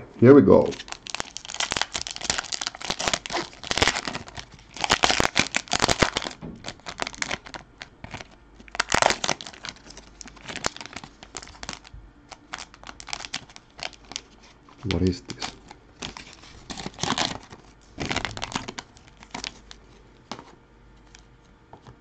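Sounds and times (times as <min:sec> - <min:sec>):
foil wrapper tearing and crinkling: 0:00.6 - 0:20.5.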